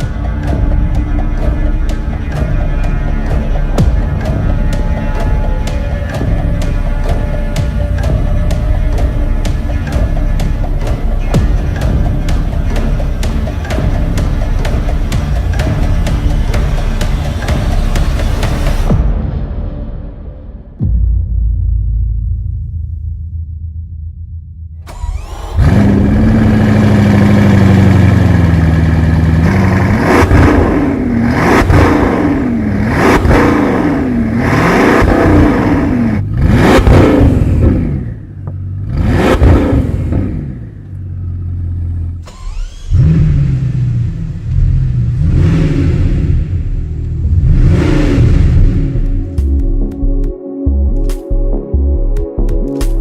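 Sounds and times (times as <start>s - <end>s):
car engine revving in blips: 0.0s - 18.9s, 24.8s - 50.3s
car engine starting: 0.0s - 19.0s, 24.8s - 51.2s.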